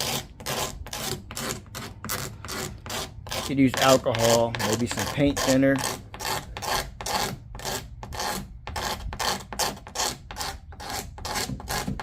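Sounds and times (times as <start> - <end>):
scraping on plastic housing: 0.0 - 12.0.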